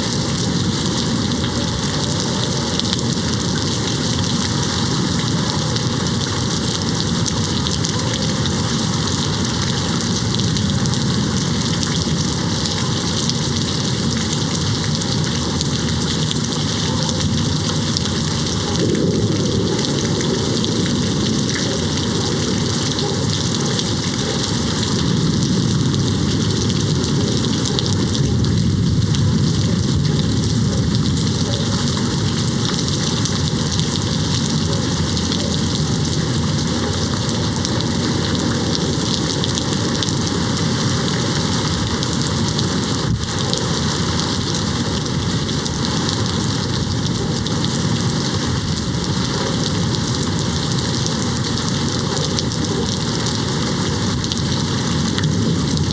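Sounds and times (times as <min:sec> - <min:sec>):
distant thunder rumble: 0:00.0 - 0:45.3
heavy rain on a window: 0:00.0 - 0:55.9.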